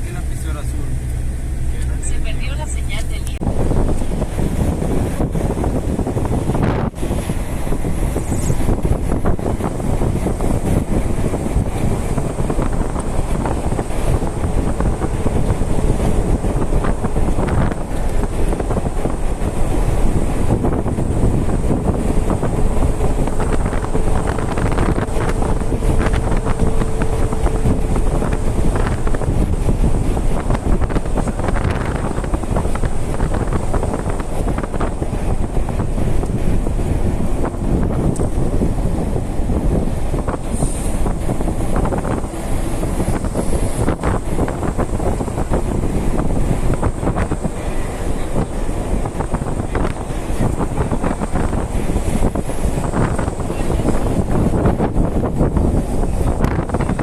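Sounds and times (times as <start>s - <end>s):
road vehicle rumble: 0.0s - 57.0s
wind buffeting microphone: 0.0s - 57.0s.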